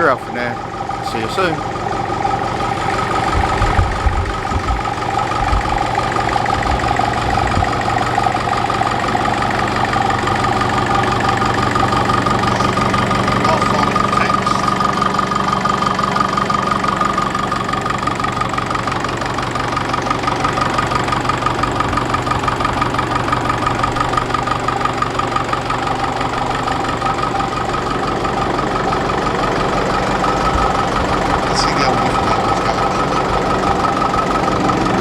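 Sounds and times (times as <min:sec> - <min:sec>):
tractor diesel engine idling: 0:00.0 - 0:35.0.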